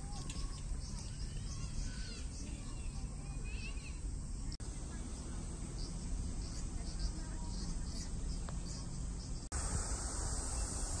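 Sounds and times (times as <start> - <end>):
insects chirping: 0.0 - 11.0
steady background noise: 0.0 - 11.0.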